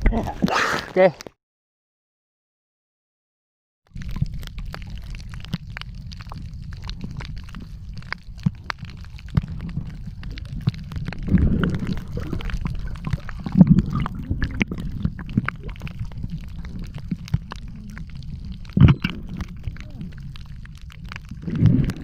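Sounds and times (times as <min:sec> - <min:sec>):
water gurgling: 0:00.0 - 0:01.1, 0:03.9 - 0:22.0
underwater clicks and crackles: 0:00.0 - 0:01.3, 0:03.9 - 0:22.0
underwater low rumble: 0:03.9 - 0:22.0.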